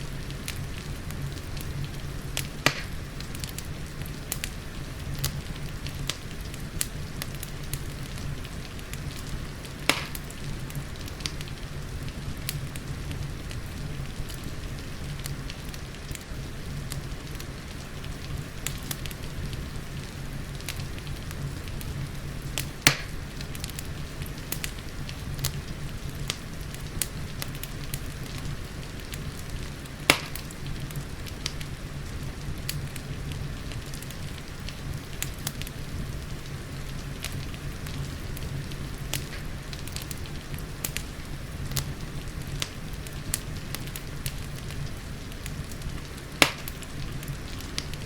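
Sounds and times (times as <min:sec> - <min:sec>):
soft hiss of rain: 0:00.0 - 0:48.0
wood fire crackling: 0:00.0 - 0:48.0
fire pops: 0:00.1 - 0:48.0.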